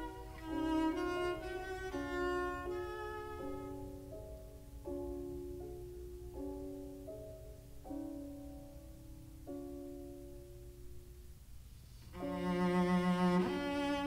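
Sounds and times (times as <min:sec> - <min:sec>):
bowed string instrument music: 0:00.0 - 0:10.9, 0:11.8 - 0:14.0.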